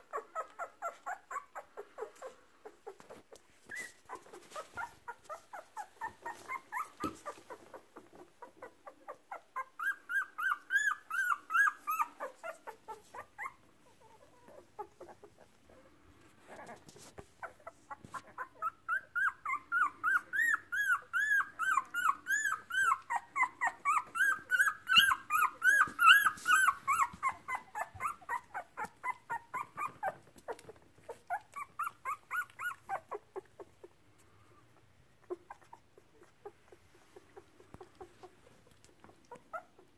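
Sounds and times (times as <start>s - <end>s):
puppy whimpering: 0.0s - 39.9s.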